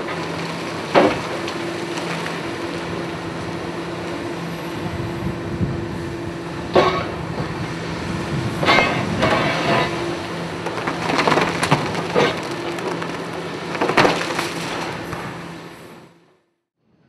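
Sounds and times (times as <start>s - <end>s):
heavy machinery engine hum: 0.0s - 16.5s.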